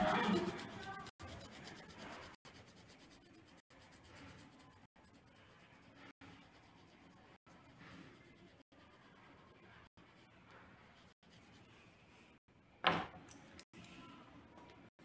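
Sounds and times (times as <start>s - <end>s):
marker scratching on paper: 0.0s - 12.4s.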